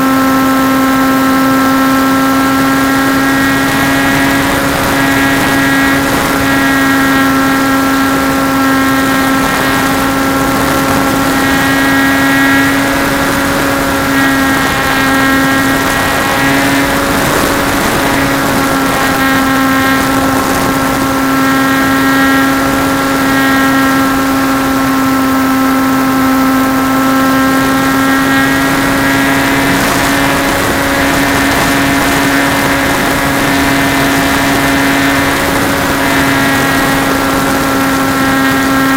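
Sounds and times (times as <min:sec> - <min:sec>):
model plane motor and propeller: 0:00.0 - 0:38.9.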